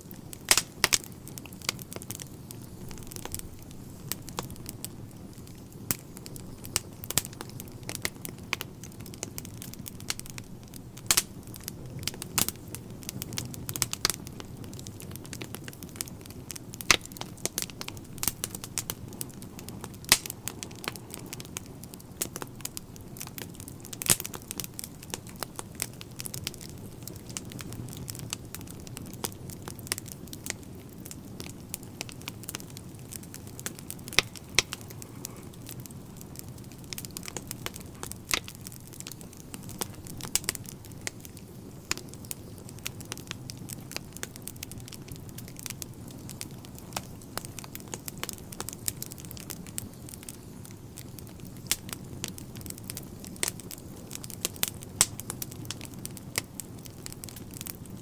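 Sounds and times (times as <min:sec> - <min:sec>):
burning logs popping: 0:00.0 - 0:58.0
fire crackling: 0:00.0 - 0:58.0
flames rumbling: 0:00.0 - 0:58.0.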